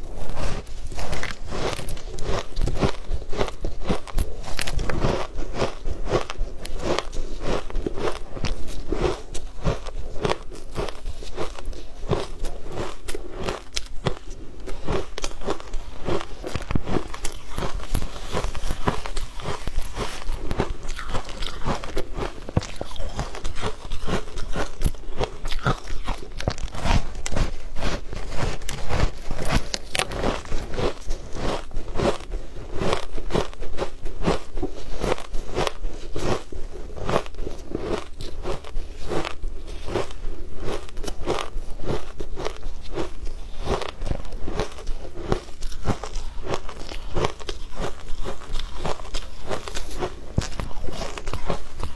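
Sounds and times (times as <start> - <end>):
crunching of shaved ice being chewed: 0.0 - 51.9.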